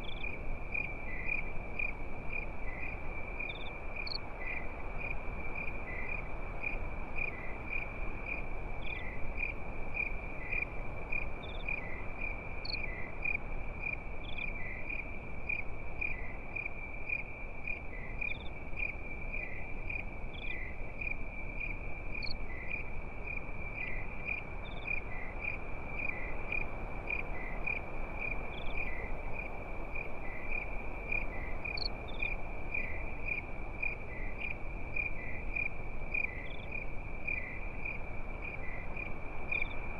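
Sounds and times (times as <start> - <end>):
crickets chirping chorus: 0.0 - 39.9
higher cricket chirps: 0.0 - 39.9
slow pulsing cricket chirp: 0.0 - 39.9.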